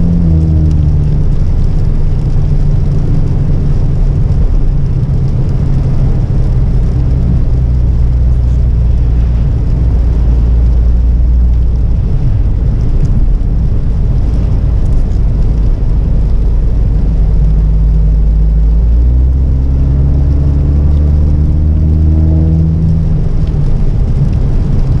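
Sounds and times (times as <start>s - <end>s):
car engine: 0.0s - 25.0s
road noise inside car: 0.0s - 25.0s.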